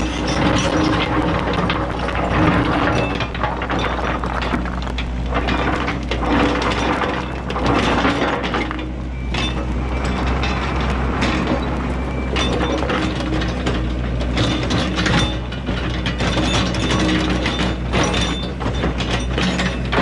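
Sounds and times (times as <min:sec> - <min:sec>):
bucket clattering and scraping rock: 0:00.0 - 0:20.0
diesel engine humming: 0:00.0 - 0:20.0.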